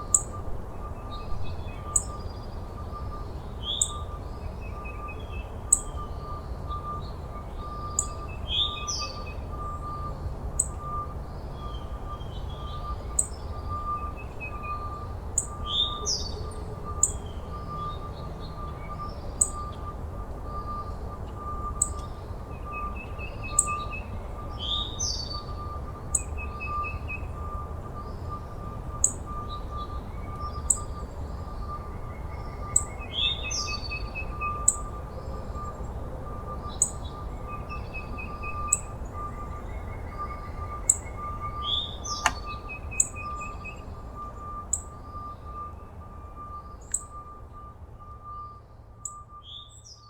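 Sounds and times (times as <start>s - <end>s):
birds chirping and singing: 0.0s - 20.0s, 20.6s - 45.7s.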